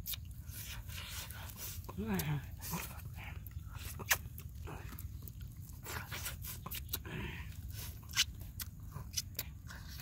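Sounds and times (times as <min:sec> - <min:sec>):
man chewing crunchy food: 0:00.0 - 0:10.0.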